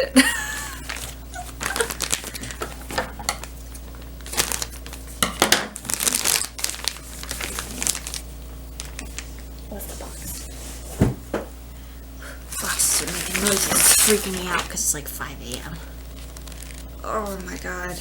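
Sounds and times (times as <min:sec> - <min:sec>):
packaging crinkling and rustling: 0:00.6 - 0:10.6, 0:12.6 - 0:14.9, 0:15.5 - 0:17.8.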